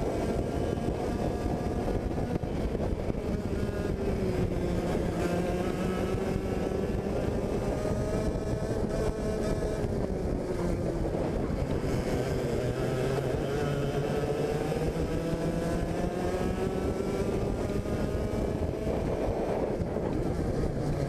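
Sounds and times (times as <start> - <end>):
kart engine revving: 0.0 - 21.0.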